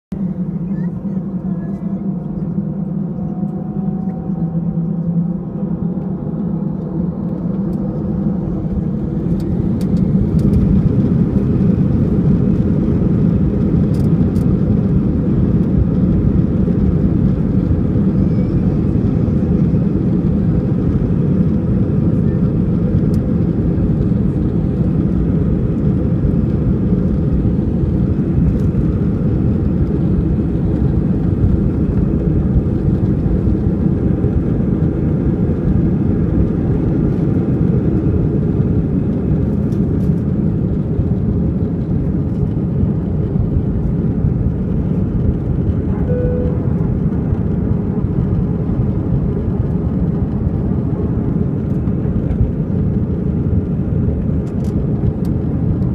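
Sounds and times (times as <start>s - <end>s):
jet engines at take-off thrust: 0.1s - 55.9s.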